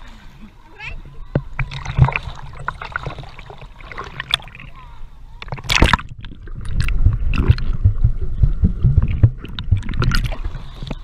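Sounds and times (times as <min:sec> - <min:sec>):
underwater thumps: 0:01.2 - 0:04.8, 0:05.4 - 0:11.0
muffled underwater rumble: 0:01.2 - 0:11.0
bubbling clicks: 0:01.4 - 0:04.8, 0:05.4 - 0:11.0
water splash: 0:01.4 - 0:11.0.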